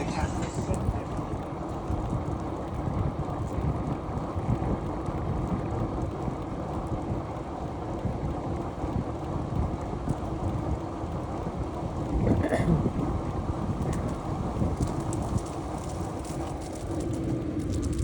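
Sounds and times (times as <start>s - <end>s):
wind and road rumble: 0.0s - 18.0s.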